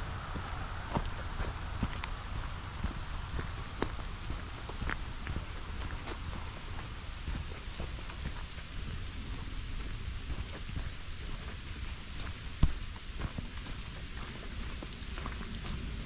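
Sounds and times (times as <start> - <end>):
footsteps on muddy ground: 0.0 - 16.0
wind rumble on microphone: 0.0 - 16.0.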